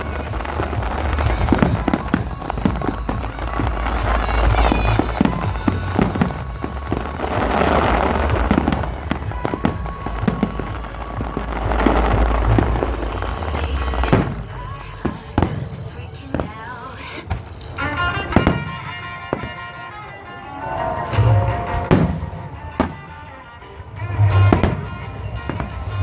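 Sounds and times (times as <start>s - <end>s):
fireworks booming: 0.0s - 26.0s
fireworks cracking and crackling: 0.0s - 26.0s
music: 0.0s - 26.0s.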